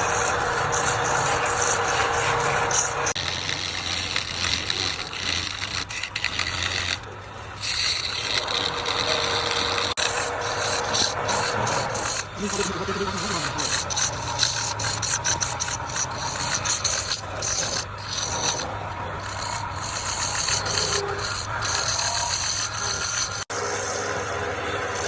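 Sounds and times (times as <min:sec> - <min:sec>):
tool rasping on spinning wood: 0:00.0 - 0:25.0
wood lathe motor hum: 0:00.0 - 0:25.0.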